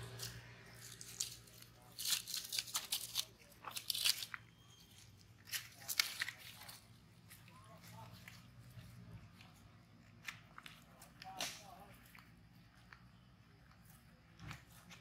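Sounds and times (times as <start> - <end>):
crunching and crackling clicks: 0.0 - 15.0.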